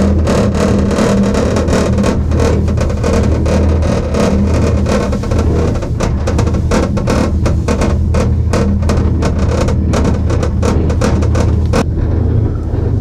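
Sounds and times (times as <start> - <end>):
gondola cabin humming: 0.0 - 13.0
rattling and clicking: 0.0 - 13.0.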